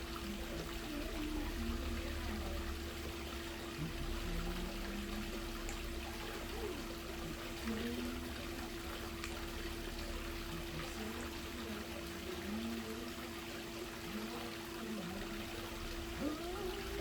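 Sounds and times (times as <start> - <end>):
low hum: 0.0 - 17.0
water pouring and trickling: 0.0 - 17.0.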